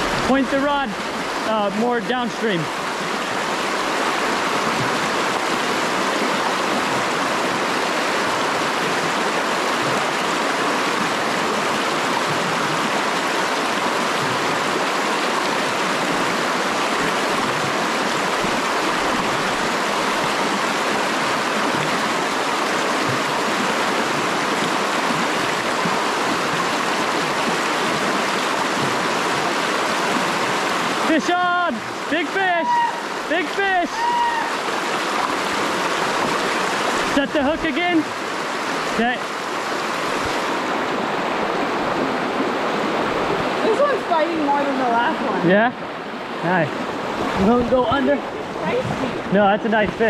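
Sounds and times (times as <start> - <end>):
fast-flowing creek rushing: 0.0 - 50.0.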